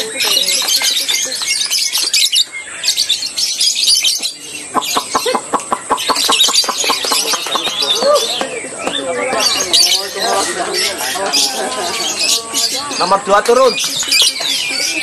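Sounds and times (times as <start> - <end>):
lovebirds chattering and chirping: 0.0 - 15.0.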